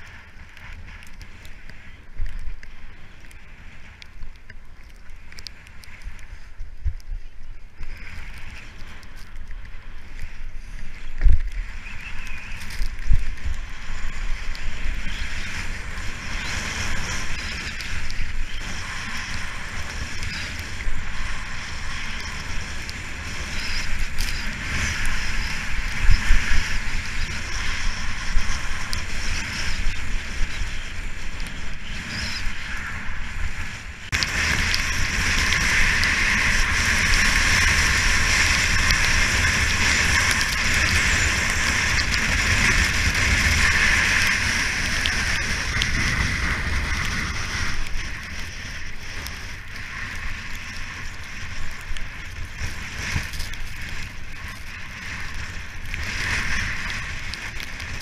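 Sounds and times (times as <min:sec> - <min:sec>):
skis scraping over snow: 0:00.0 - 0:58.0
wind rumbling on microphone: 0:00.0 - 0:58.0.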